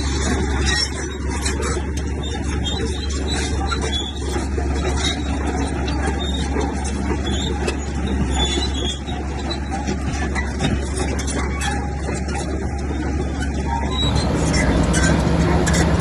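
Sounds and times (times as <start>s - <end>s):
bulldozer diesel engine running: 0.0s - 16.0s
high squeaks of tracks: 0.0s - 16.0s.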